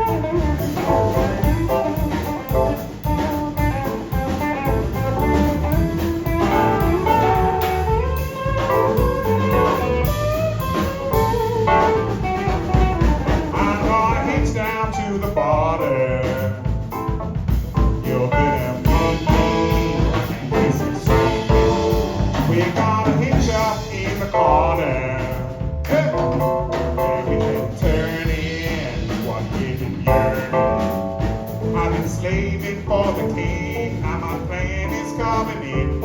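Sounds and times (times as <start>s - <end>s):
blues band playing: 0.0s - 36.0s.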